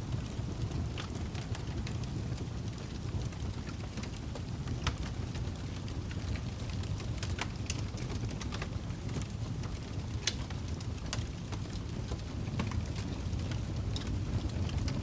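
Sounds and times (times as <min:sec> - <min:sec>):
fire popping and snapping: 0:00.0 - 0:15.0
fire rumbling: 0:00.0 - 0:15.0.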